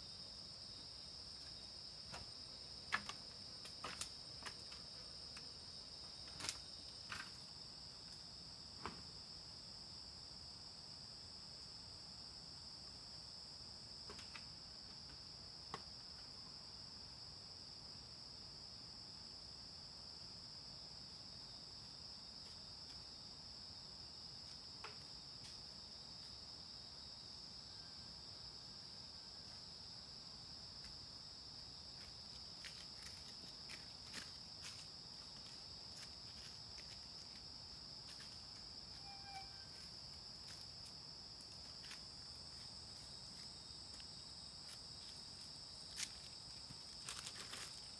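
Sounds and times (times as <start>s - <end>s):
high insect chorus: 0.0s - 47.9s.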